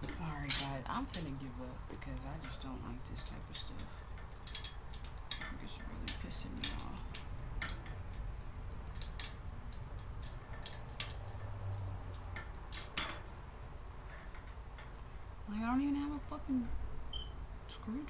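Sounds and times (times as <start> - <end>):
hardware clicking and clinking: 0.0 - 15.2.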